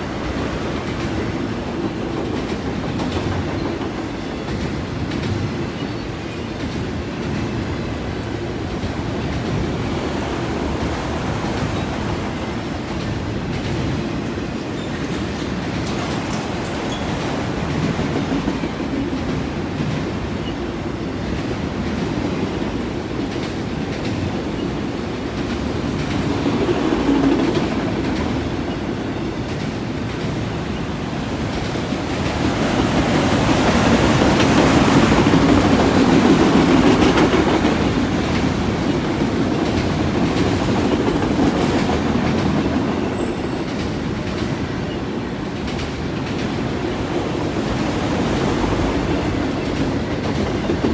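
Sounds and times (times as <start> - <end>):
freight train cars rolling: 0.0 - 50.9
wheels clicking over rail joints: 0.0 - 50.9.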